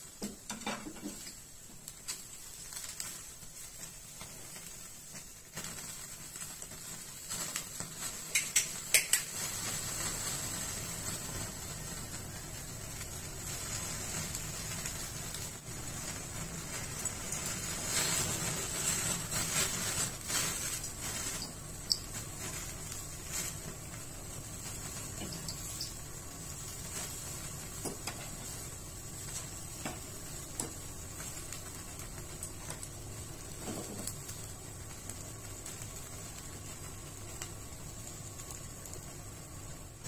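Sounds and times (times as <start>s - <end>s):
gas burner flame hissing: 0.0s - 40.0s
meat sizzling: 0.0s - 40.0s
sharp crackles: 0.0s - 40.0s.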